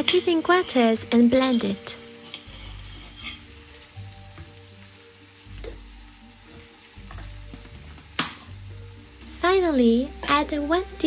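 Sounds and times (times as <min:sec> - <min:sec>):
chicken frying in a pan: 0:00.0 - 0:11.0.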